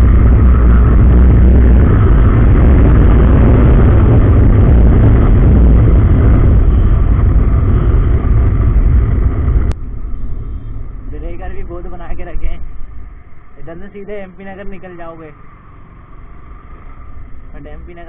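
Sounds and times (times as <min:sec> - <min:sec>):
motorcycle engine and exhaust: 0:00.0 - 0:18.0.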